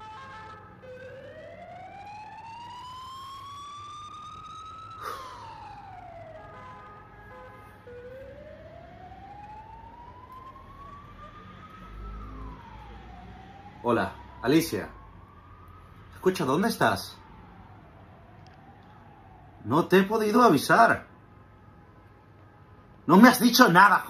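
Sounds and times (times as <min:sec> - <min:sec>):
emergency siren wailing: 0:00.0 - 0:24.0.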